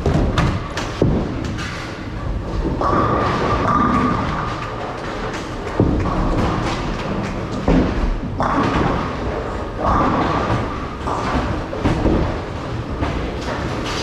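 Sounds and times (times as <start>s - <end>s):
bowling balls and pins thudding: 0.0s - 14.0s
bowling balls rolling: 0.0s - 14.0s.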